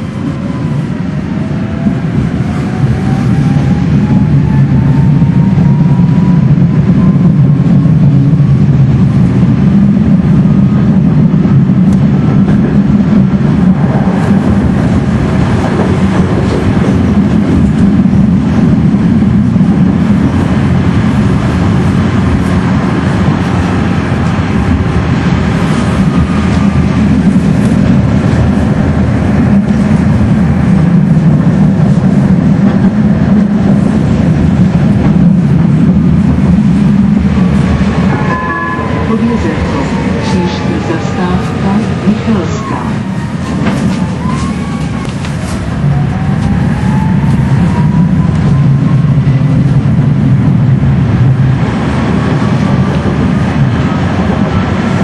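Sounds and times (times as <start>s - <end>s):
rail clicks: 0.0s - 55.0s
tram rumbling on rails: 0.0s - 55.0s.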